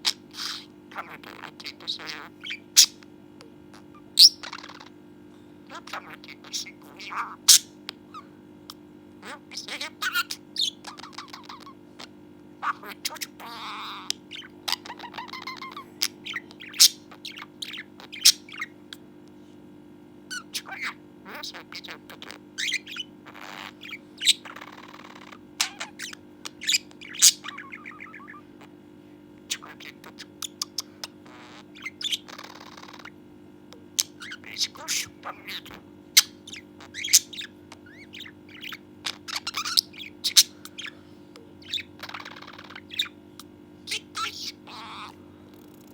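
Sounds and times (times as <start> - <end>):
budgerigar chirping: 0.0 - 3.0, 3.7 - 4.9, 5.7 - 19.0, 20.3 - 28.7, 29.5 - 33.2, 34.0 - 41.0, 41.6 - 45.2.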